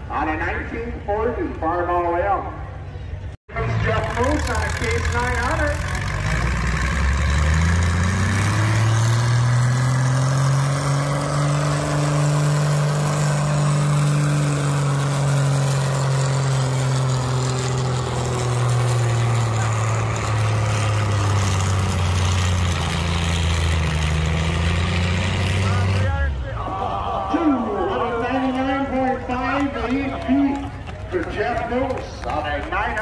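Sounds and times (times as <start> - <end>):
pulling vehicle engine running hard: 2.6 - 33.0.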